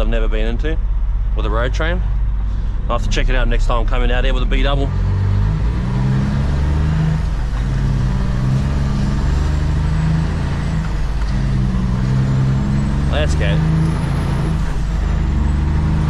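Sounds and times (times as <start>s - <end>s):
truck diesel engine accelerating: 0.0s - 16.0s.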